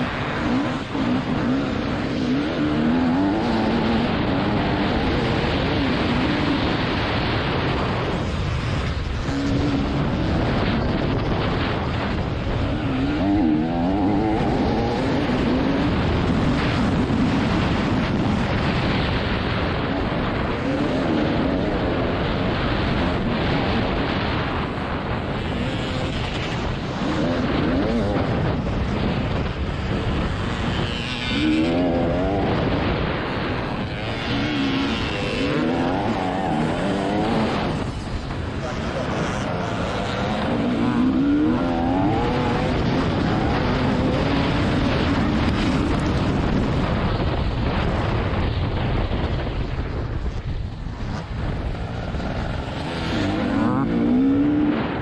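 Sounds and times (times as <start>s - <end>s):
two-stroke motocross bike revving: 0.0s - 55.0s.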